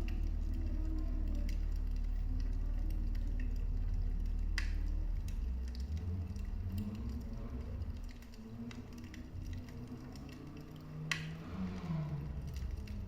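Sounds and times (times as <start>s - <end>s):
fire crackles and pops: 0.0s - 13.0s
fire rumbling: 0.0s - 13.0s.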